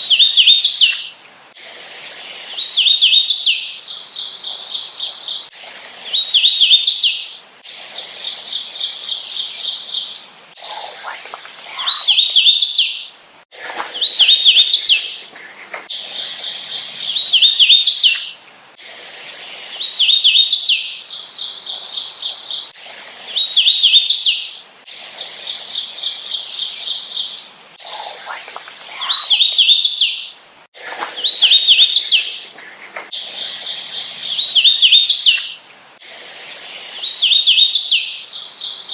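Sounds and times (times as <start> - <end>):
warbler singing whistled phrases: 0.0 - 1.2, 2.2 - 5.5, 6.1 - 7.4, 8.2 - 13.2, 13.9 - 18.4, 19.5 - 24.6, 25.5 - 30.4, 31.0 - 35.7, 36.8 - 38.9.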